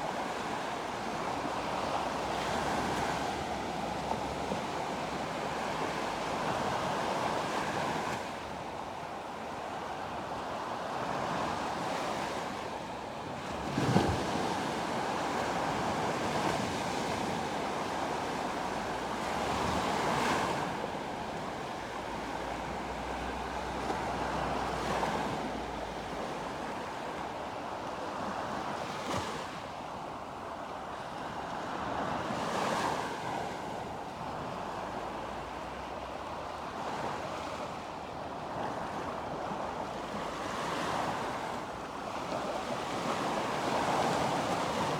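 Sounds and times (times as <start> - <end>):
sea waves breaking on shore: 0.1 - 44.9.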